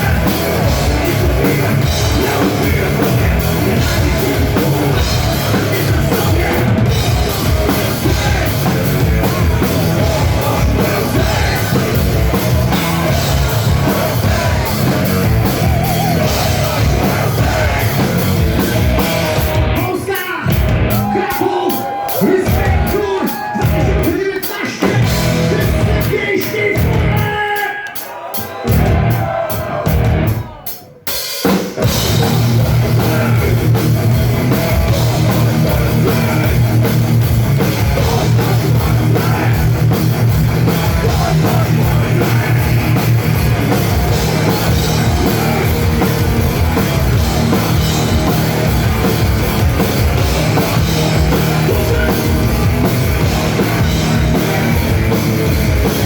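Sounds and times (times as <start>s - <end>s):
drum kit: 0.0s - 56.0s
heavy rock band playing: 0.0s - 56.0s.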